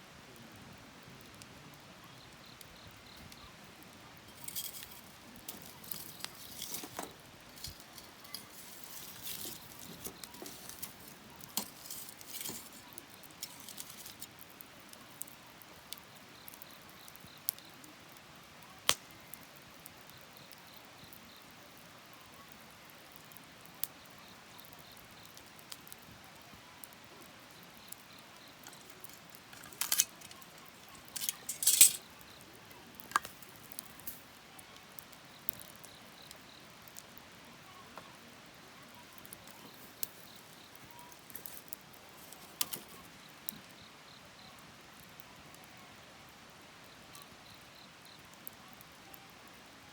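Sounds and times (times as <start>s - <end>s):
wood fire crackling and popping: 0.2s - 49.6s.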